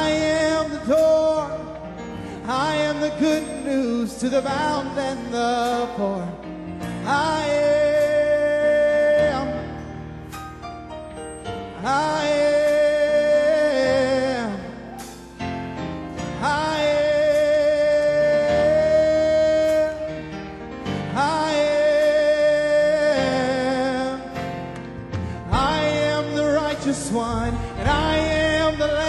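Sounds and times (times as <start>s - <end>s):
instrumental backing: 0.0s - 29.0s
person singing gospel: 0.0s - 29.0s.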